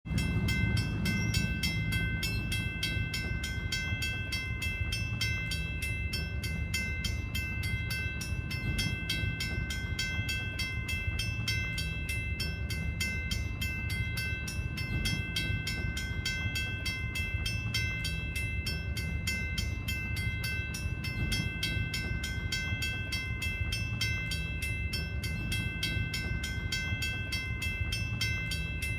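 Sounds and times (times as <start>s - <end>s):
railroad crossing bell ringing: 0.0s - 28.9s.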